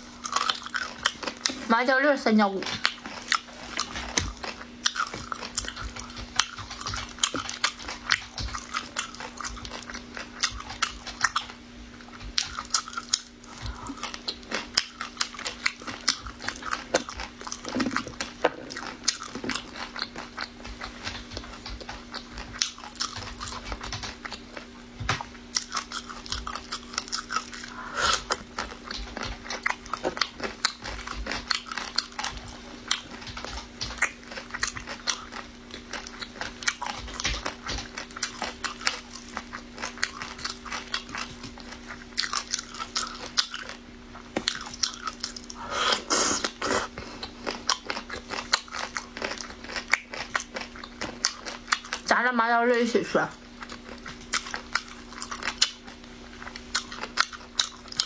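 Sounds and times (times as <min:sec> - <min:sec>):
wet crunching chewing: 0:00.0 - 0:52.3, 0:53.3 - 0:58.0
faint low hum: 0:00.0 - 0:58.0.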